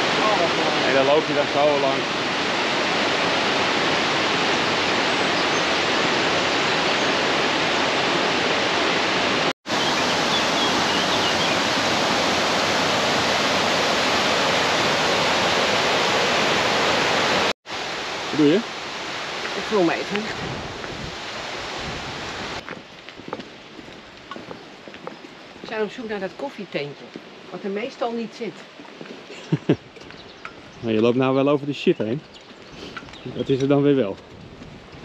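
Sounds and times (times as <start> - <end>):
water rushing: 0.0 - 32.1.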